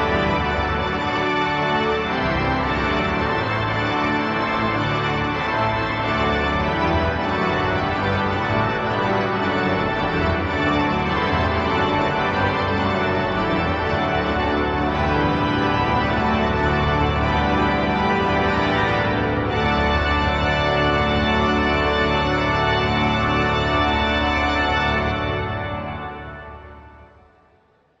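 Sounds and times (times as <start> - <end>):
pipe organ playing loud chords: 0.0 - 27.6.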